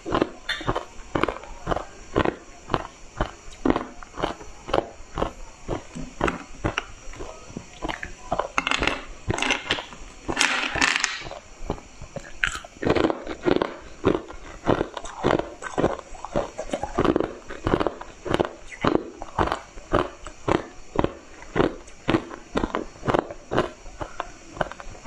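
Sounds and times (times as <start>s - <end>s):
crunching and chewing ice: 0.0s - 9.9s, 11.1s - 25.0s.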